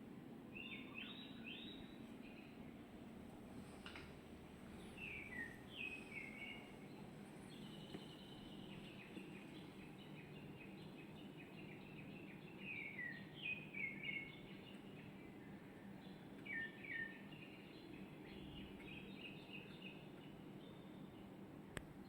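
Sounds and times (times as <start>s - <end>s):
steady low hum: 0.0s - 22.0s
small songbird singing: 0.5s - 2.8s, 3.6s - 21.4s.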